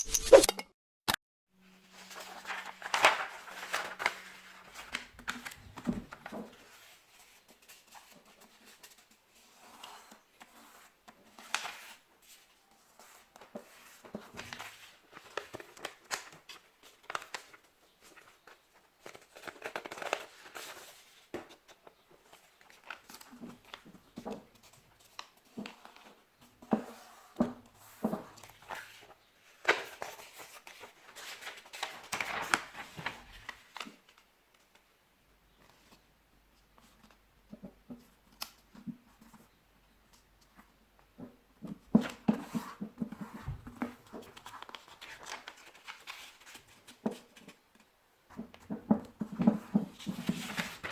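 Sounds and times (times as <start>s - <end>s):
paper being folded and creased: 1.9s - 34.8s, 41.6s - 50.9s.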